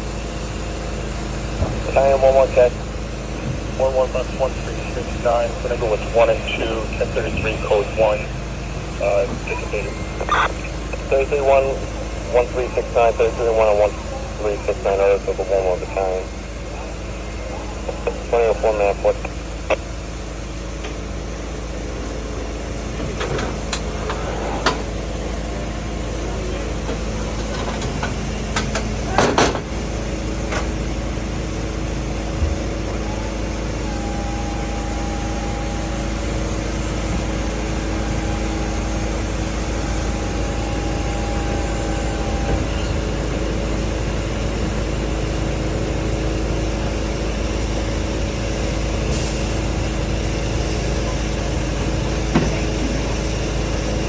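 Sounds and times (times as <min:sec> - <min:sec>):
engines droning: 0:00.0 - 0:54.0.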